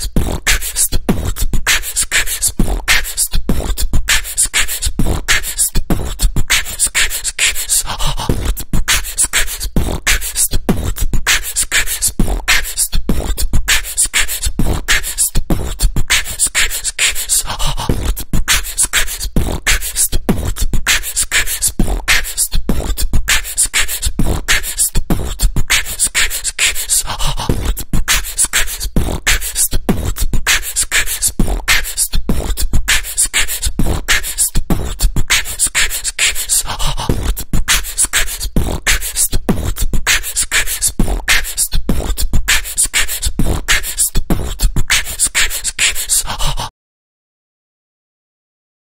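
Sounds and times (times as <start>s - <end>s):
vocal beatbox rhythm: 0.0s - 46.7s.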